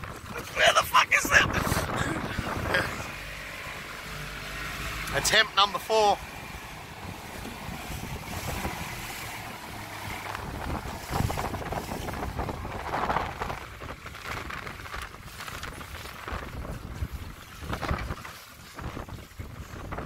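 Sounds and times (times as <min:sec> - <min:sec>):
wind buffeting microphone: 0:00.0 - 0:05.1, 0:06.2 - 0:20.0
motorboat engine running: 0:00.0 - 0:20.0
water splashing against hull: 0:00.0 - 0:20.0.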